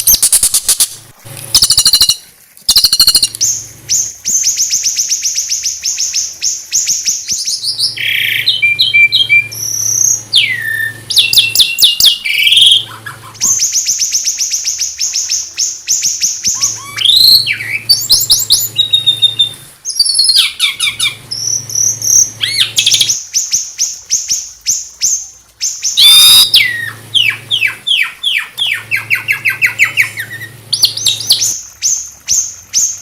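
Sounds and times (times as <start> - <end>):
small songbird singing: 0.0 - 33.0.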